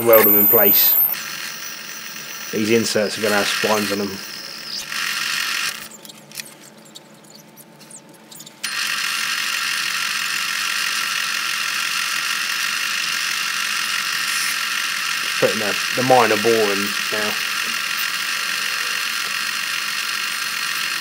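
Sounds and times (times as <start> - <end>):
metal lathe running: 0.0 - 6.0, 8.6 - 21.0.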